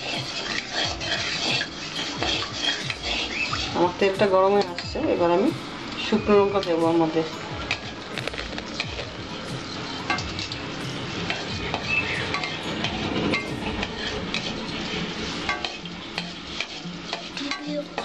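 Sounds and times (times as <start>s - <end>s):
chillies sizzling in hot oil: 0.0s - 18.0s
wooden spatula scraping pan: 0.0s - 18.0s.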